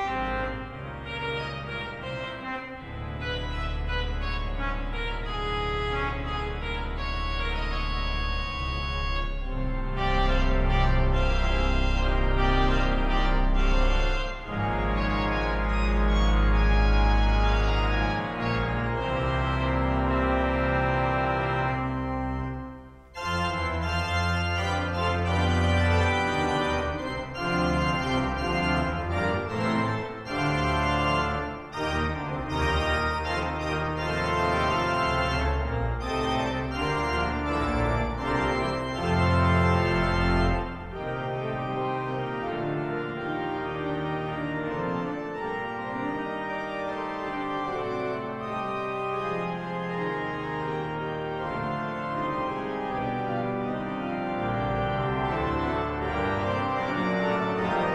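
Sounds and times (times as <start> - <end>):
deep organ pedal bass notes: 0.0 - 57.9
pipe organ playing: 0.0 - 57.9.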